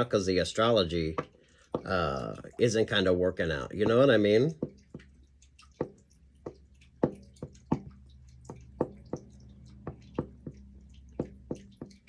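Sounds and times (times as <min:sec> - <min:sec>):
faint electrical hum: 0:00.0 - 0:12.0
water dripping: 0:00.0 - 0:12.0.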